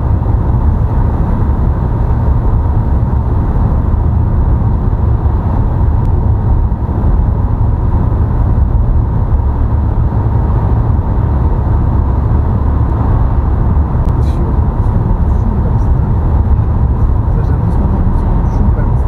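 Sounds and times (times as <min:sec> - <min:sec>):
road and engine rumble in car: 0:00.0 - 0:19.0.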